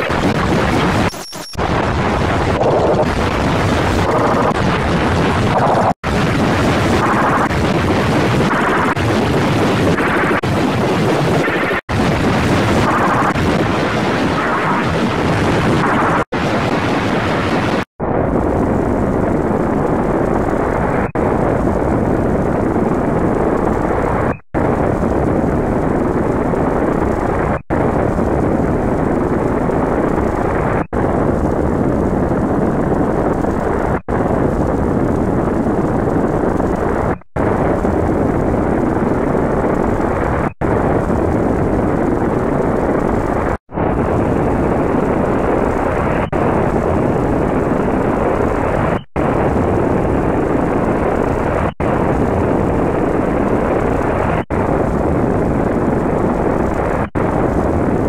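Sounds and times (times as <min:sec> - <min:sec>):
harsh distorted noise: 0:00.0 - 0:58.0.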